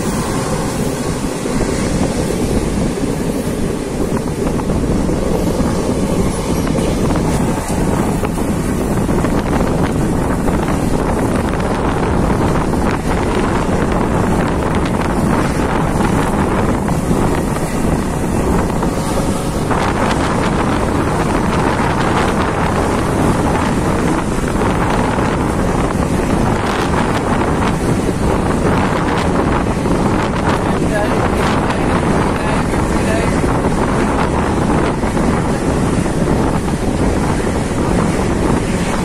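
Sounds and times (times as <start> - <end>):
passenger train rumbling: 0.0 - 39.0
wind buffeting microphone: 0.0 - 39.0.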